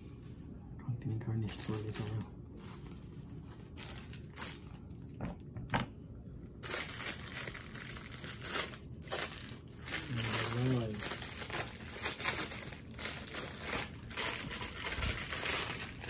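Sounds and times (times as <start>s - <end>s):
plastic bag crinkling: 1.4s - 5.2s, 6.5s - 16.0s.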